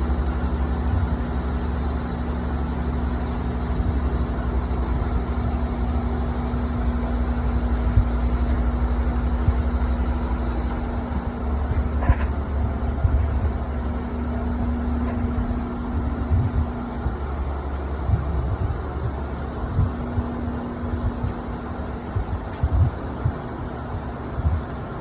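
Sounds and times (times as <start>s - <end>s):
deep rumble: 0.0s - 25.0s
steady mechanical hum: 0.0s - 25.0s.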